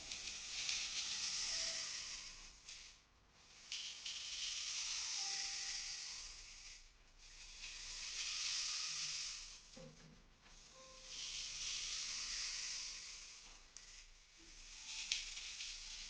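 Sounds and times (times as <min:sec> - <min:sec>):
rain stick pellets cascading: 0:00.0 - 0:02.9, 0:03.6 - 0:09.6, 0:10.7 - 0:16.0.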